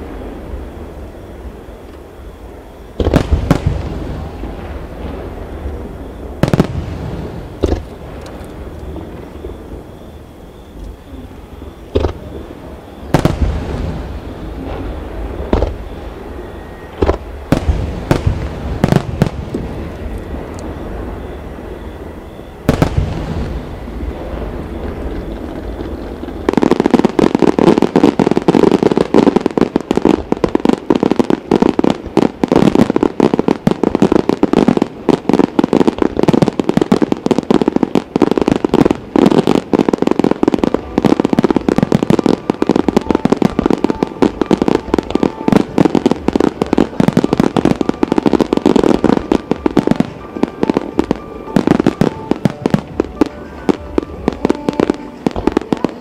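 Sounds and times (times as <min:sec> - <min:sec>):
fireworks bursts and bangs: 0:02.8 - 0:10.2, 0:10.9 - 0:56.0.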